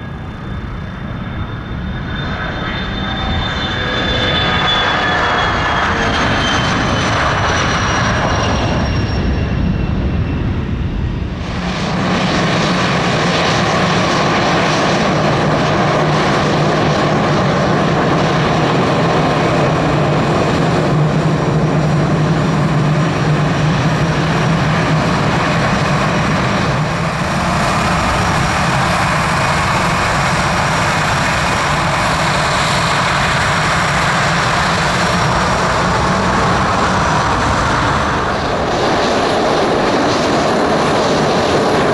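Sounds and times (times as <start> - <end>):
jet engines taxiing: 0.0 - 41.9
jet taking off: 0.0 - 41.9.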